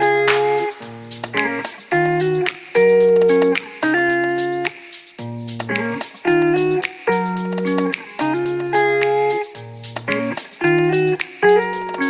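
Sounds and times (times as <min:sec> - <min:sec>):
plucked guitar chords: 0:00.0 - 0:12.0.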